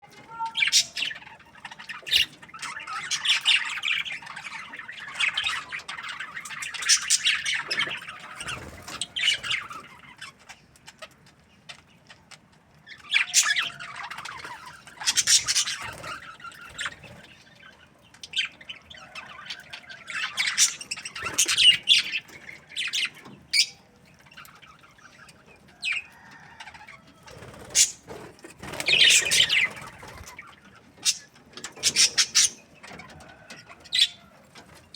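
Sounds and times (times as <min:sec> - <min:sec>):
budgerigars chirping and chattering: 0:00.2 - 0:34.9.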